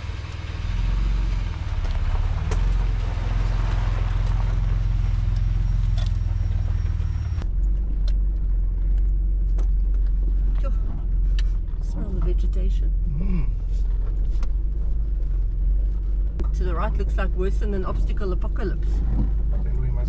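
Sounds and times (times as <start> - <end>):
engine running at crawling speed: 0.0 - 20.0.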